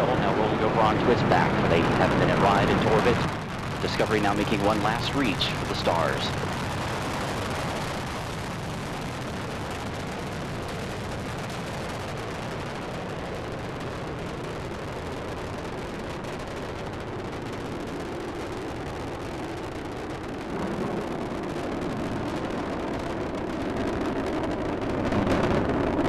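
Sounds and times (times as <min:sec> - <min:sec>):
rocket engines roaring: 0:00.0 - 0:26.0.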